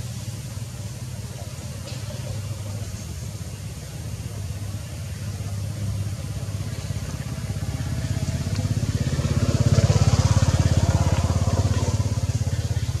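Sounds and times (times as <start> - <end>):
small engine throbbing: 0.0 - 13.0.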